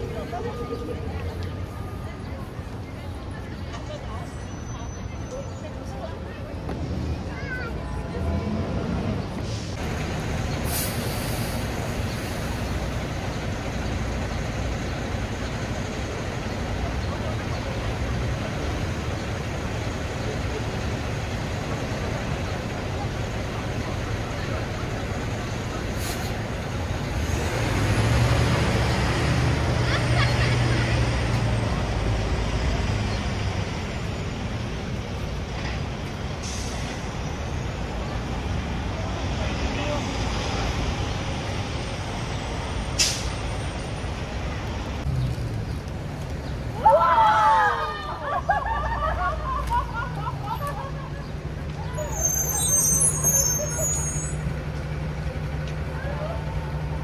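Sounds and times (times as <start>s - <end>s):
road noise: 0.0s - 57.0s
rumble of passing vehicles: 0.0s - 57.0s.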